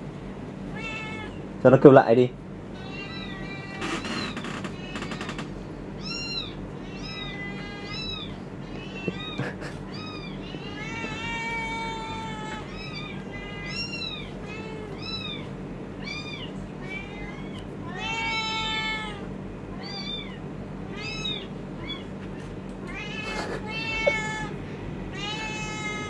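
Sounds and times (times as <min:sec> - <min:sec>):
kitten mewing: 0:00.7 - 0:01.4, 0:02.8 - 0:26.0.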